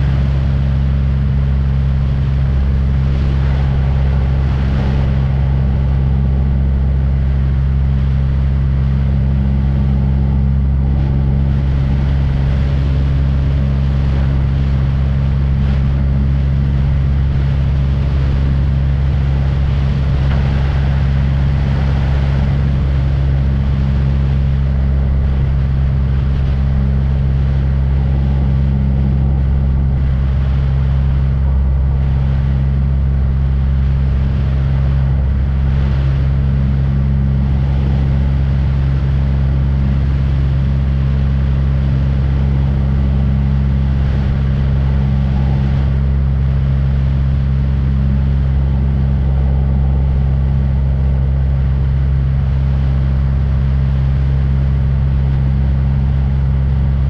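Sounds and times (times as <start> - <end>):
aircraft engine droning: 0.0 - 57.0.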